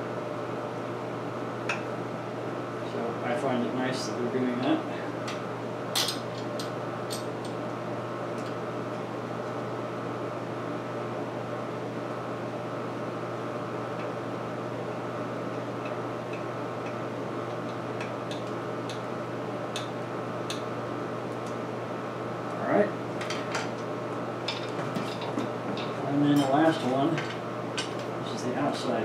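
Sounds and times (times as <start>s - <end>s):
fan or motor humming: 0.0s - 29.0s.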